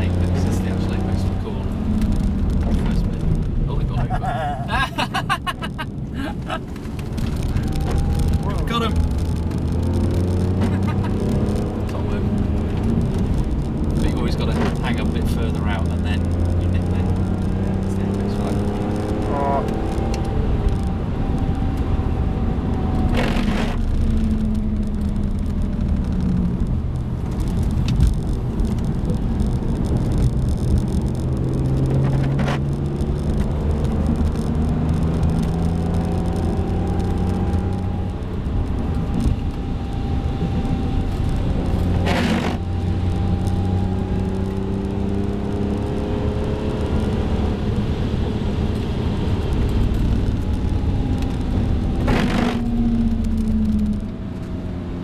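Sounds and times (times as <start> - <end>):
car engine revving: 0.0 - 55.0
road and tyre noise: 0.0 - 55.0.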